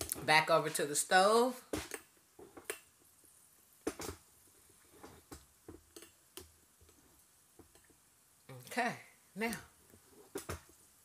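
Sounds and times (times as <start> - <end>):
food frying in oil popping: 0.0 - 11.0.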